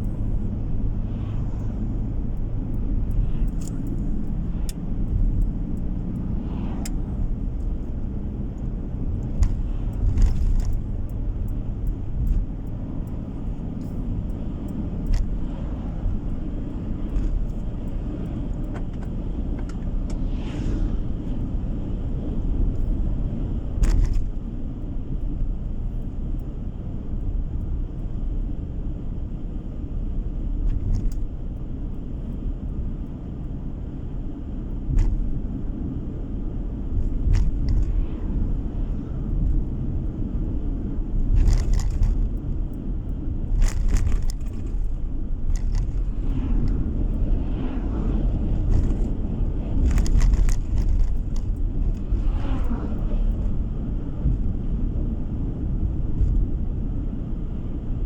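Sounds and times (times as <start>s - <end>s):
rumble of tyres and engine: 0.0s - 58.0s.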